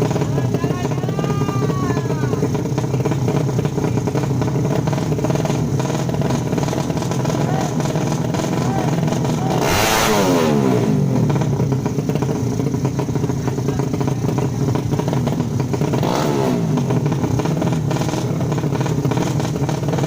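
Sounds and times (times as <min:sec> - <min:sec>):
motorcycle engines revving high: 0:00.0 - 0:20.0.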